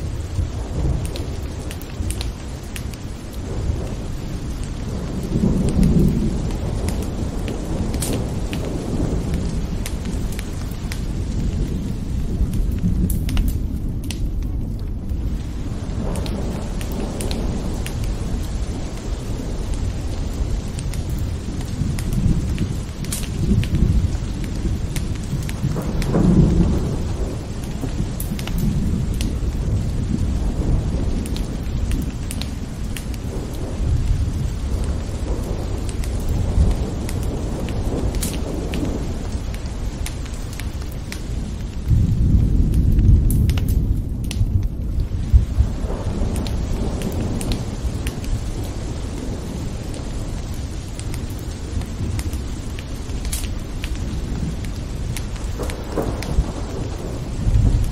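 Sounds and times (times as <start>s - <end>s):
low thunder rumble: 0.0s - 57.9s
rainfall hiss: 0.0s - 57.9s.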